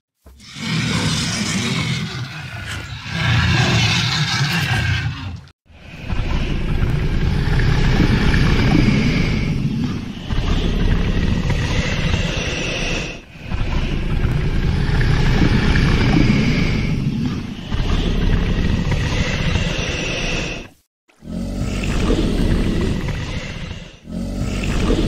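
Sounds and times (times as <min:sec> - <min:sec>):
long low growls: 0:00.4 - 0:25.0.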